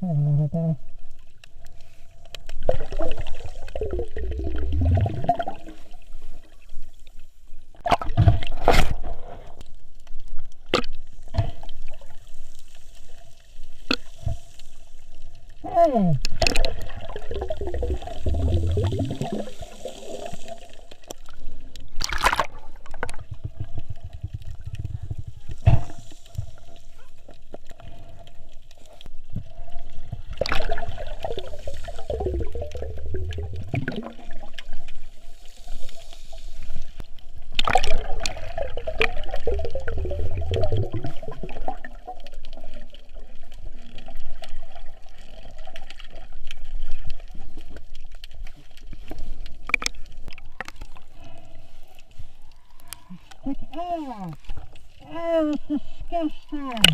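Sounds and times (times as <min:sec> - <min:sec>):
water gurgling and sloshing: 0:00.7 - 0:56.9.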